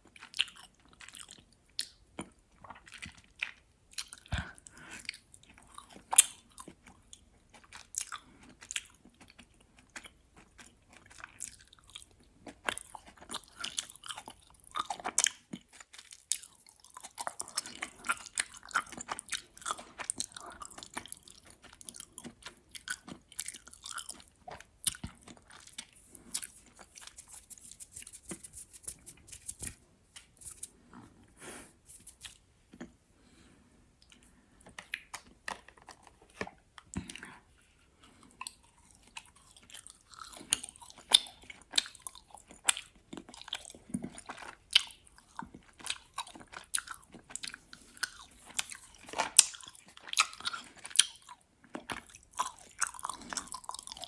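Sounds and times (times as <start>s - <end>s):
chewing gummy candy: 0.0s - 28.4s, 34.0s - 54.0s.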